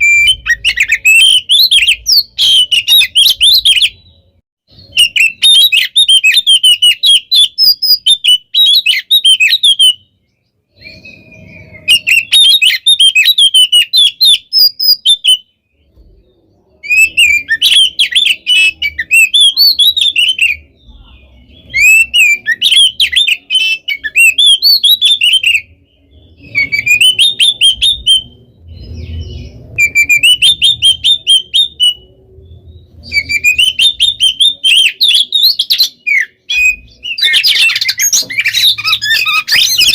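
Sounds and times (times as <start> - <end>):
bird singing chattering whistles: 0.0 - 15.9, 16.8 - 39.9.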